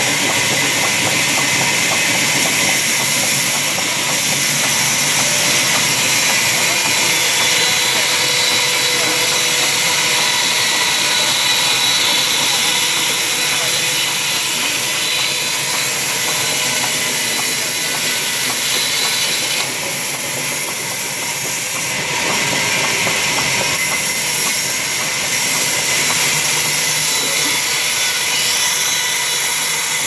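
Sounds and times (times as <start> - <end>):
saw cutting through timber: 0.0 - 30.0.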